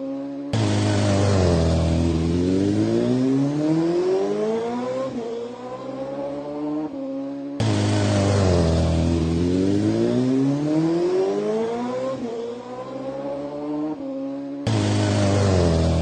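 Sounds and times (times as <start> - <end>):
atv engine accelerating: 0.0 - 16.0.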